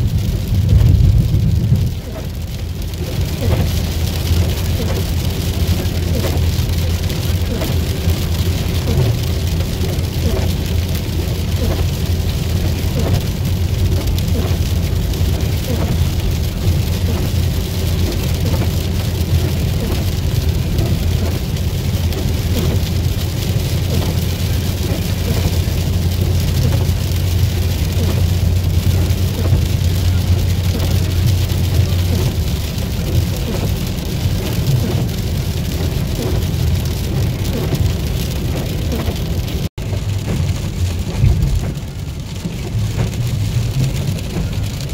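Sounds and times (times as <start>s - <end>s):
car engine and tyre noise: 0.0s - 44.9s
rain on car roof: 0.0s - 44.9s.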